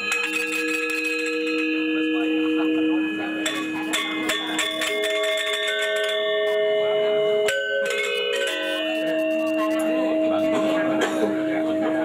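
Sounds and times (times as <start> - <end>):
metallophones ringing: 0.0 - 12.0.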